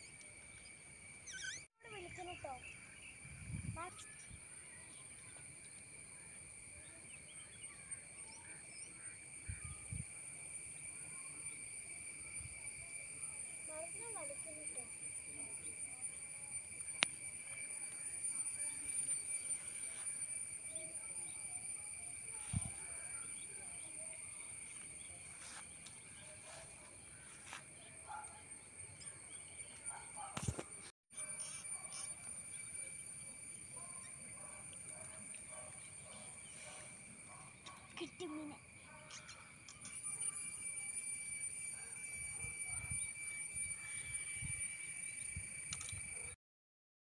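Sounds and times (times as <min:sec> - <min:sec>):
faint bird chirps: 0:00.0 - 0:30.6, 0:31.2 - 0:46.3
insects buzzing: 0:00.0 - 0:46.4.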